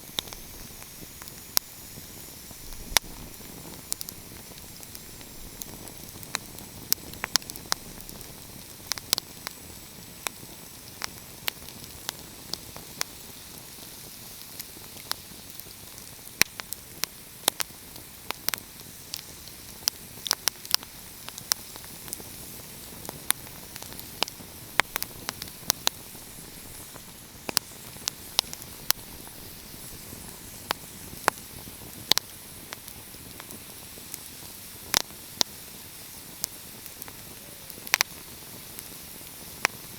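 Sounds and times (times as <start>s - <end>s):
soft fire hiss: 0.0s - 39.9s
wood fire popping and snapping: 0.0s - 39.9s.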